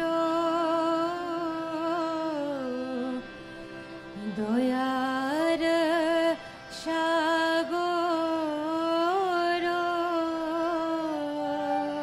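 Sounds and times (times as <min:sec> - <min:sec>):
harmonium accompaniment: 0:00.0 - 0:12.0
woman singing devotional song: 0:00.0 - 0:12.0.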